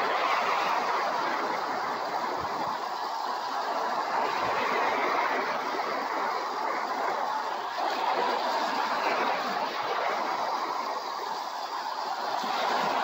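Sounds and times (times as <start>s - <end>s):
small waves washing: 0.0s - 13.0s.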